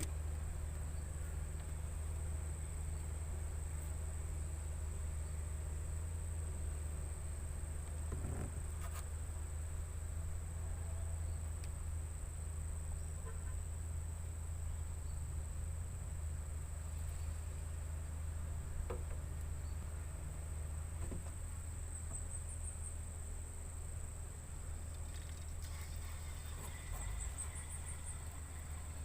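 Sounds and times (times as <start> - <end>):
insects droning: 0.0 - 29.0
low steady rumble: 0.0 - 29.0.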